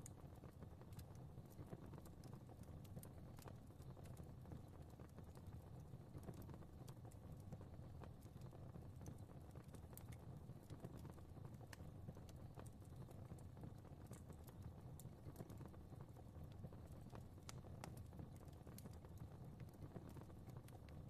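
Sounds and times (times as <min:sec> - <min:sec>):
fire crackling: 0:00.0 - 0:21.0
low rumble of flames: 0:00.0 - 0:21.0.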